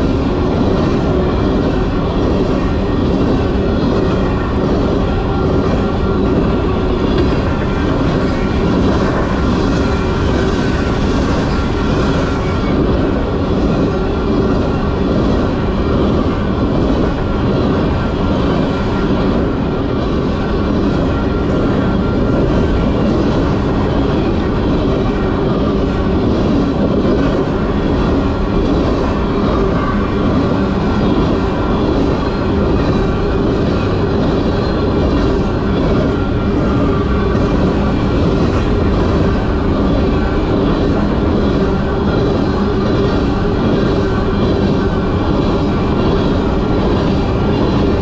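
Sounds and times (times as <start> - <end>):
freight train rumbling past: 0.0 - 48.0.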